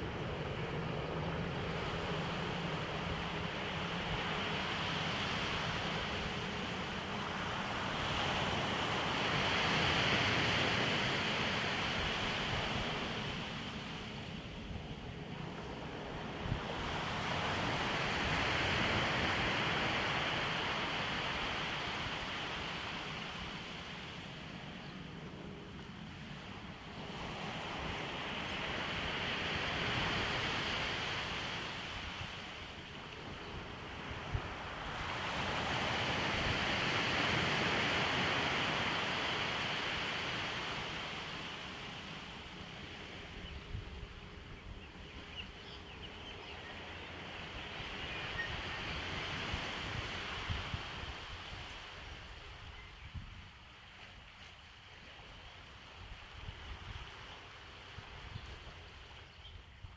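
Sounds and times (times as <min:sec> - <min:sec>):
waves washing onto beach: 0:00.0 - 0:44.5, 0:46.6 - 0:52.7.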